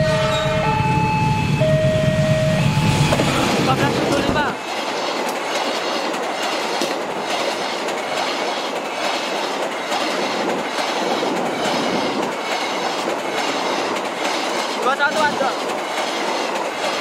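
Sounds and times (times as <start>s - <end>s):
train rushing past: 0.0s - 17.0s
wheels clickety-clack: 3.1s - 17.0s.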